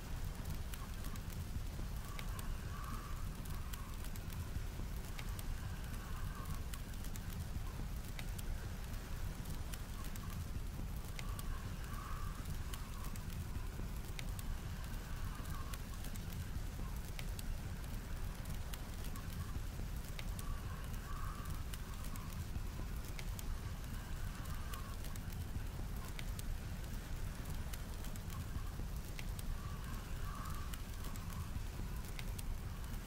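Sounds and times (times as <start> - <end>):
blizzard wind rumbling: 0.0 - 33.0
wood fire crackling and popping: 0.0 - 33.0.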